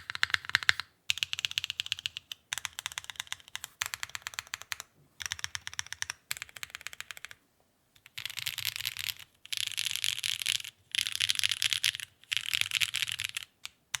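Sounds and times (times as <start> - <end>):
mechanical keyboard typing: 0.0 - 7.4, 8.0 - 14.0.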